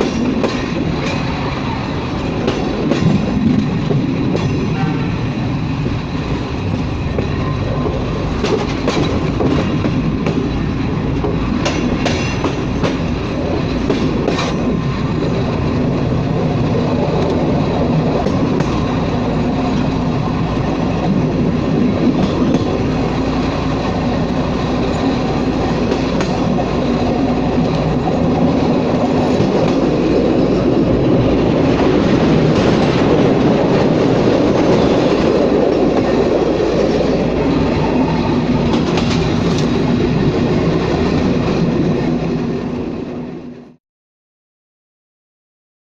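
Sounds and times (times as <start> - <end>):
train wheels clattering over joints: 0.0 - 5.0, 6.8 - 41.4
train rumble and engine hum: 0.0 - 43.8.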